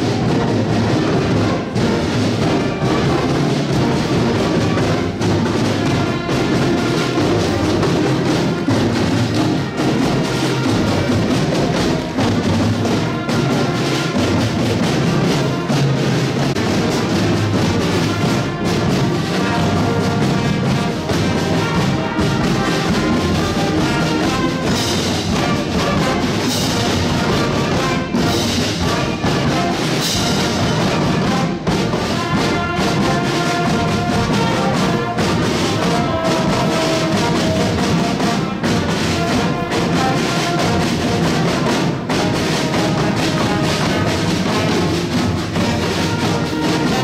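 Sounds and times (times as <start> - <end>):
brass marching band playing: 0.0 - 47.0
snare and bass drums: 0.0 - 47.0.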